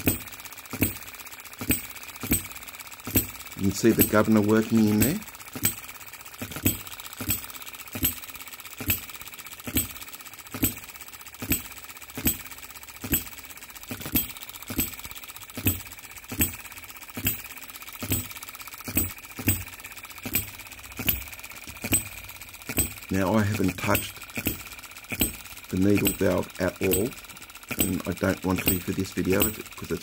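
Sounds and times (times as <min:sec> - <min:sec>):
engine popping: 0:00.0 - 0:30.0
faint fast engine ticking: 0:00.0 - 0:30.0.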